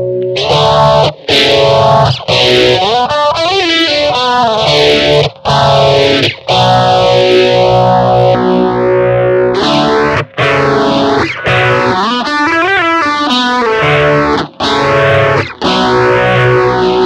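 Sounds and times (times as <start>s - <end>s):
distorted electric guitar with phaser: 0.0s - 17.0s.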